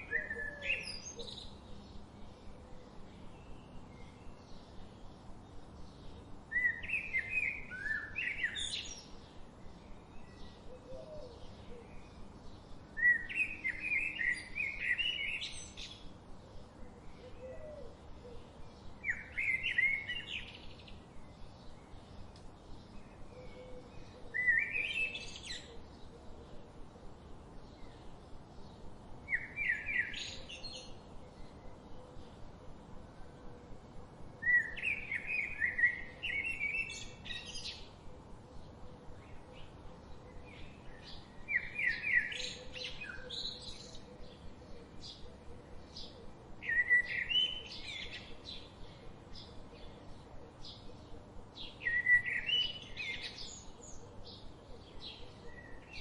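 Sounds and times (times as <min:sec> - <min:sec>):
faint bird chirping: 0:00.0 - 0:56.0
songbird singing: 0:00.0 - 0:56.0.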